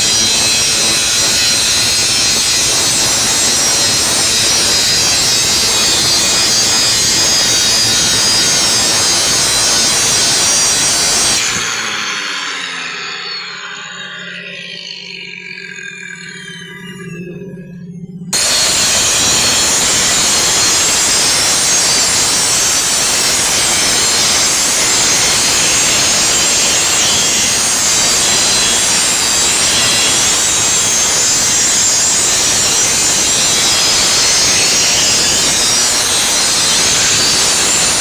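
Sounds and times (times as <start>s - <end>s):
welding arc hissing: 0.0s - 11.8s, 18.4s - 38.0s.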